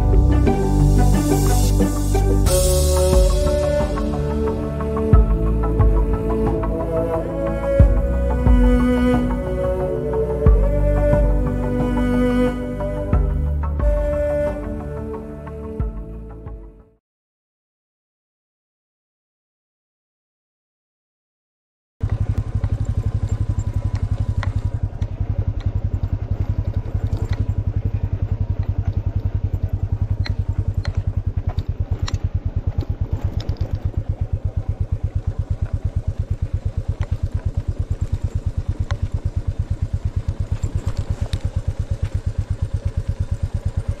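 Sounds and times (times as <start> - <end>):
motorcycle engine idling: 0.0 - 16.4, 22.0 - 44.0.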